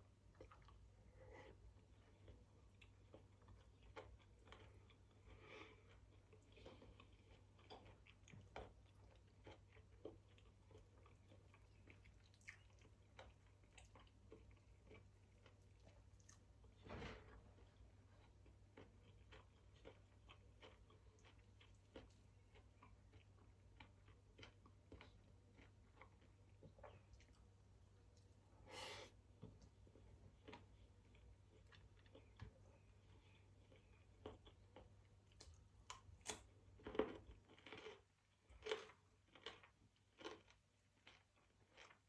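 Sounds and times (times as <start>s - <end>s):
person chewing: 0.3s - 16.5s, 17.6s - 27.5s, 30.4s - 42.0s.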